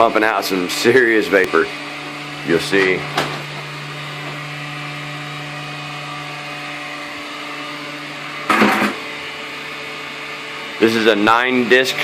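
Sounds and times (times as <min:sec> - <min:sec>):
humidifier fan motor hum: 0:00.0 - 0:12.0.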